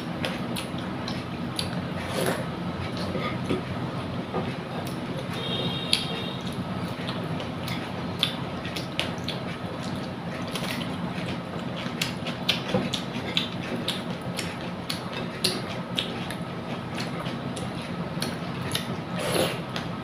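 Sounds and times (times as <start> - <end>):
wet chewing and squelching: 0.0 - 20.0.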